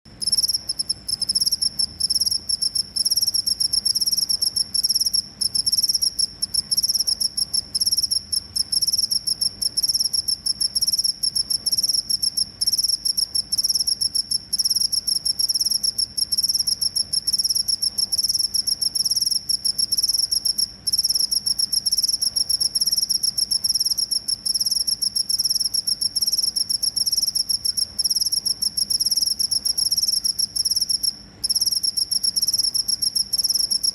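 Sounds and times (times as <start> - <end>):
cricket chirping: 0.2 - 33.9.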